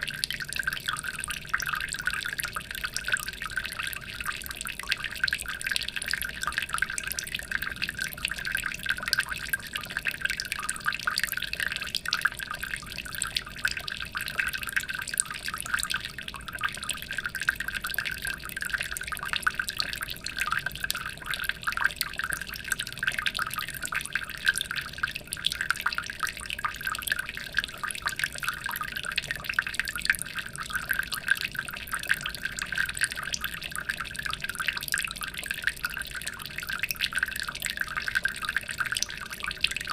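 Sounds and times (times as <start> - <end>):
aquarium water trickling and splashing: 0.0 - 39.9.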